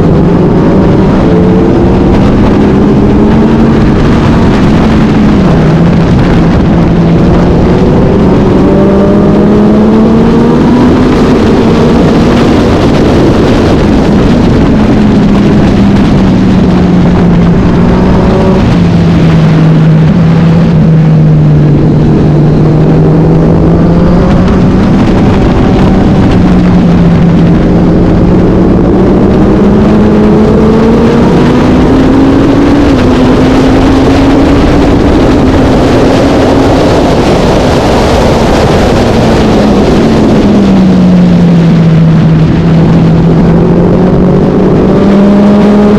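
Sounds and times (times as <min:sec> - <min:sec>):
racing motorcycle engine revving: 0:00.0 - 0:45.9.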